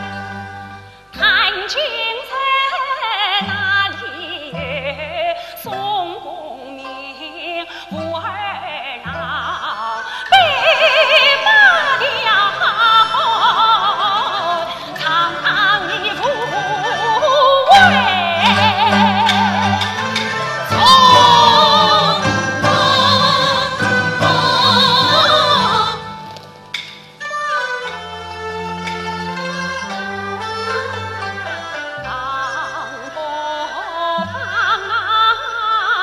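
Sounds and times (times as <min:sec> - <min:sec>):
woman singing opera: 0:00.0 - 0:26.5, 0:29.3 - 0:36.0
opera orchestra: 0:00.0 - 0:36.0.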